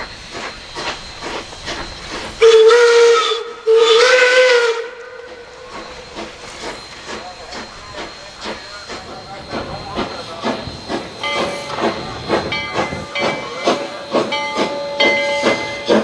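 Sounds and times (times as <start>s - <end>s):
rhythmic steam exhaust beats: 0.0s - 16.0s
steam hiss: 0.0s - 16.0s
steam locomotive whistle: 2.4s - 16.0s.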